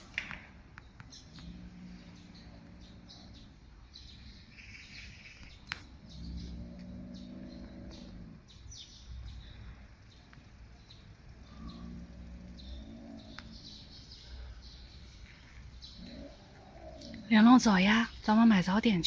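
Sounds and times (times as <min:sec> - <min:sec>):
low steady hum: 0:00.0 - 0:19.0
small birds chirping: 0:00.0 - 0:19.0.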